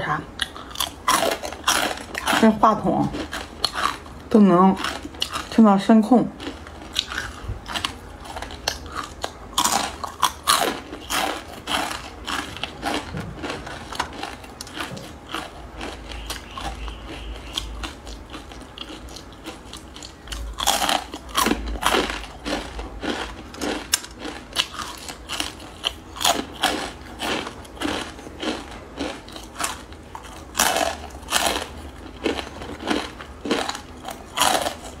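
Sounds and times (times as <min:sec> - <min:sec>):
crunching and chewing crisp noodles: 0:00.3 - 0:35.0.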